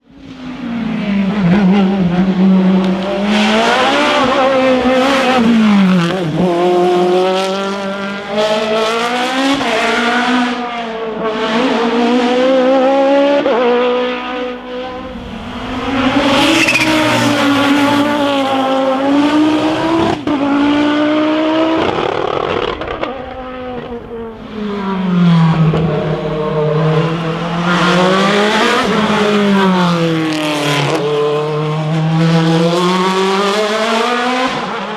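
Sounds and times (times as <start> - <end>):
racing car engines revving: 0.0 - 34.9.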